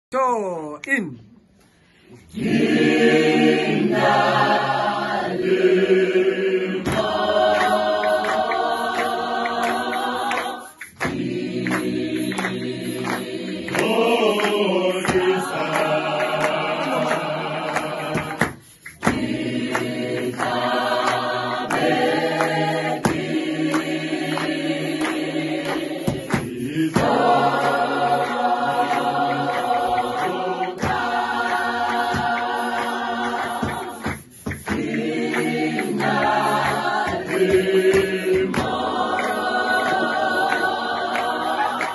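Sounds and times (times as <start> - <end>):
hand claps: 2.1 - 41.9
choir singing in harmony: 2.2 - 41.9.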